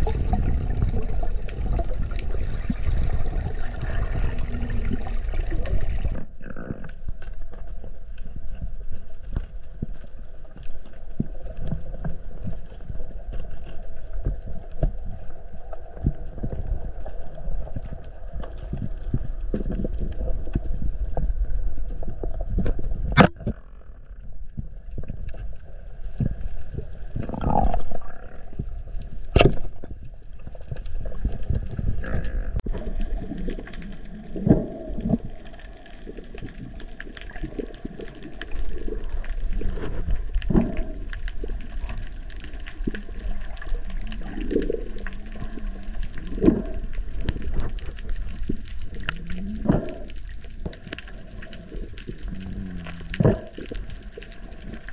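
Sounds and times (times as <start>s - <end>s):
water gurgling and sloshing: 0.0s - 54.9s.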